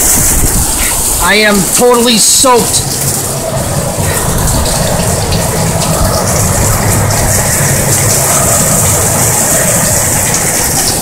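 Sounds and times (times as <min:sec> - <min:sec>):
torrential rain: 0:00.0 - 0:11.0
wind buffeting rumble: 0:00.0 - 0:11.0.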